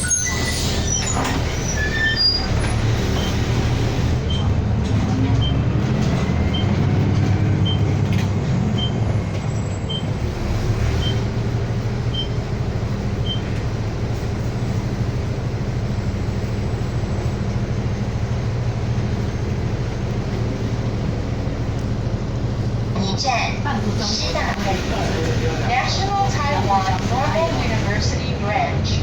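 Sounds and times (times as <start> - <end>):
bus engine and road noise: 0.0 - 29.0.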